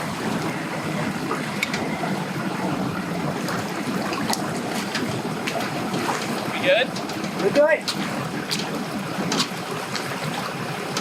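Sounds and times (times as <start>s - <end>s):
lake water splashing and lapping: 0.0s - 11.0s.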